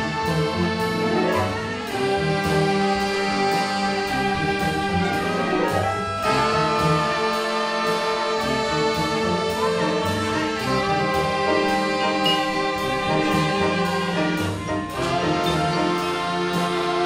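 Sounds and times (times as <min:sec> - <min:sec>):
instrumental music with brass chords: 0:00.0 - 0:17.0.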